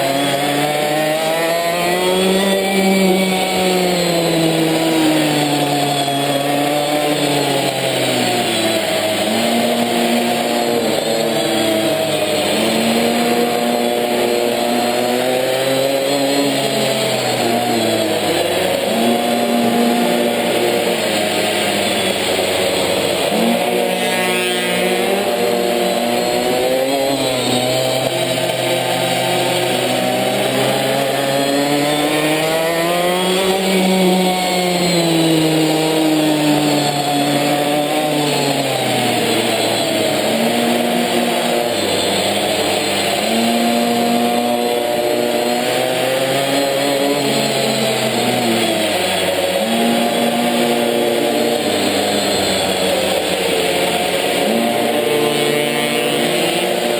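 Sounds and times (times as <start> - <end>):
small two-stroke engine revving: 0.0 - 56.9.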